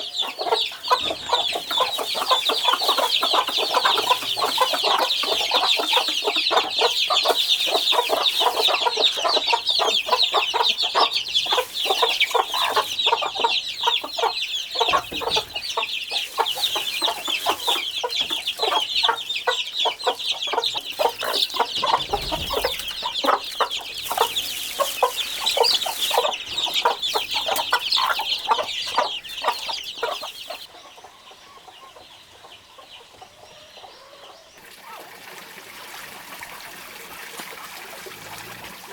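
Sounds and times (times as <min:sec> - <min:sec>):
chickens clucking and cheeping: 0:00.0 - 0:38.9.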